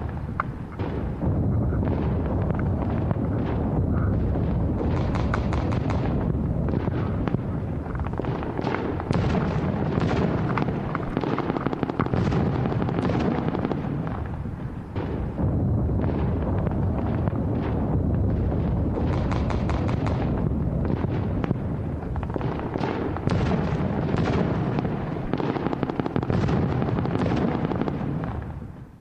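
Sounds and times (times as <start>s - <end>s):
steady low rumble: 0.0s - 29.0s
airsoft guns firing rapidly: 1.8s - 15.3s, 18.5s - 28.4s.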